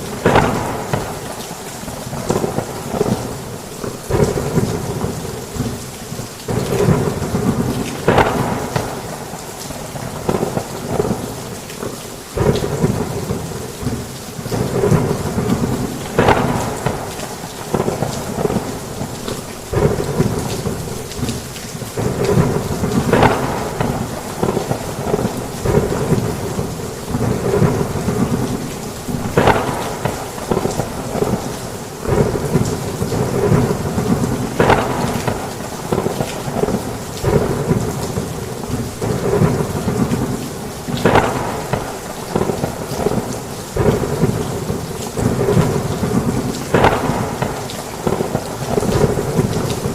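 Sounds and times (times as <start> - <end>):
thunder rumbling: 0.0 - 5.9, 6.5 - 11.5, 12.4 - 49.9
heavy rain pouring: 0.0 - 49.9.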